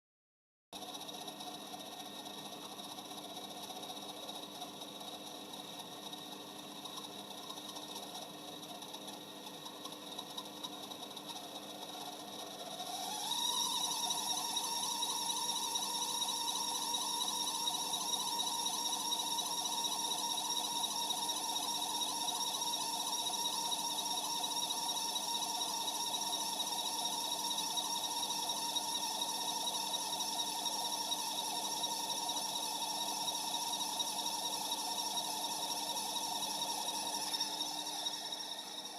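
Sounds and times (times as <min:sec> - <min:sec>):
heater fan whining: 0:00.8 - 0:38.9.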